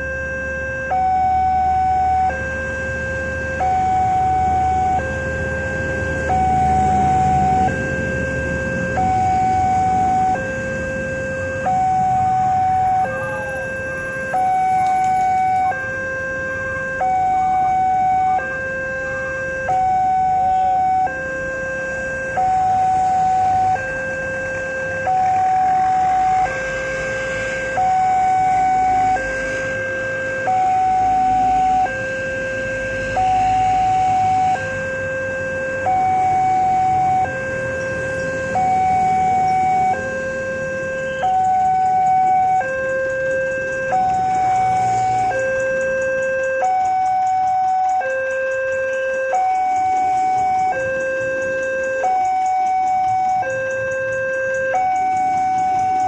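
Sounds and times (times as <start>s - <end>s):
level crossing two-tone alarm: 0.0s - 56.0s.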